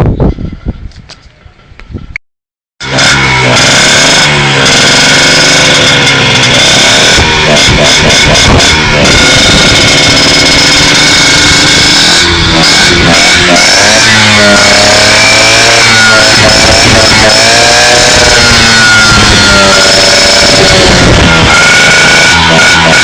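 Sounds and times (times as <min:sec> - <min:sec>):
motorcycle engine revving hard: 0:02.8 - 0:23.0.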